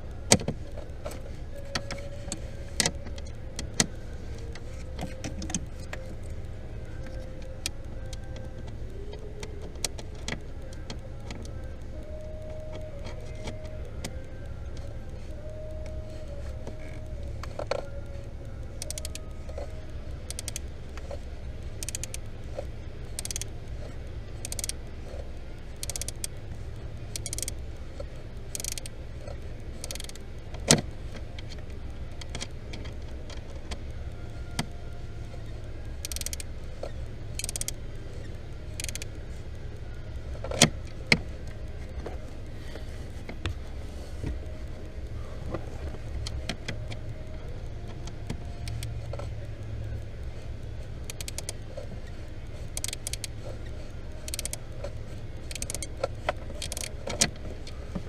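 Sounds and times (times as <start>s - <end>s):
clicking and knocking behind dashboard: 0.0s - 58.0s
low rumble: 0.0s - 58.0s.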